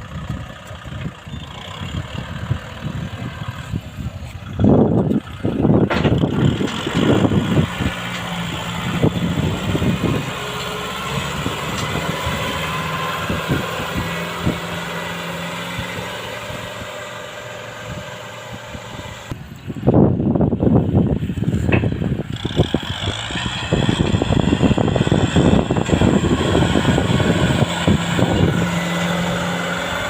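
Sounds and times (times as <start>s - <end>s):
tractor diesel engine running: 0.0s - 30.0s
uneven rumbling: 0.0s - 30.0s.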